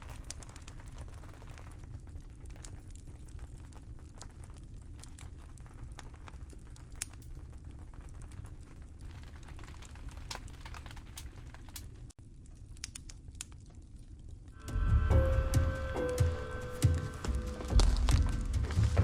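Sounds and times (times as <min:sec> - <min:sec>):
rain ticking on a tent: 0:00.0 - 0:14.6, 0:16.0 - 0:19.0.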